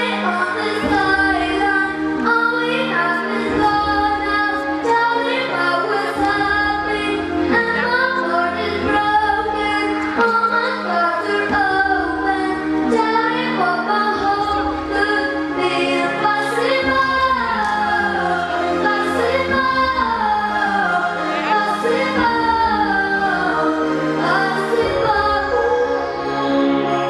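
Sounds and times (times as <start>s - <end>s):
girl singing into a microphone: 0.0s - 26.4s
instrumental backing music: 0.0s - 27.0s.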